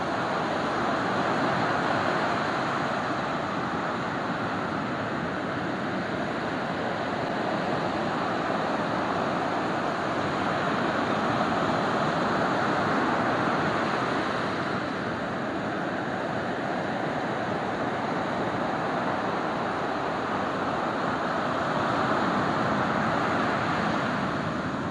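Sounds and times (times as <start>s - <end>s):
ocean waves breaking: 0.0s - 24.9s.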